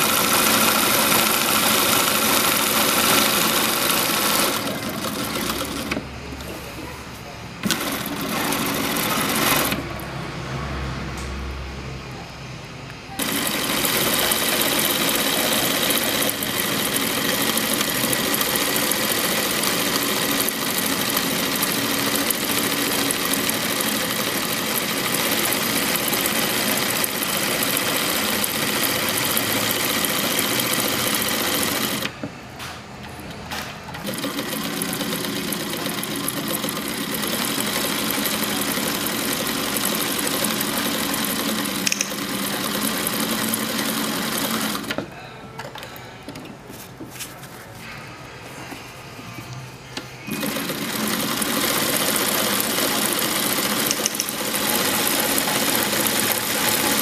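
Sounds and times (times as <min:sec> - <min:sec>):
sewing machine stitching: 0:00.0 - 0:06.6, 0:07.6 - 0:10.1, 0:13.2 - 0:32.2, 0:33.6 - 0:45.0, 0:50.2 - 0:57.0.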